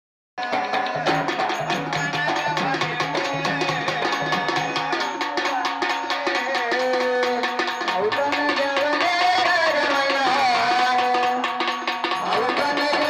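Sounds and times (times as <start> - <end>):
fast hand-drum rhythm: 0.4 - 13.0.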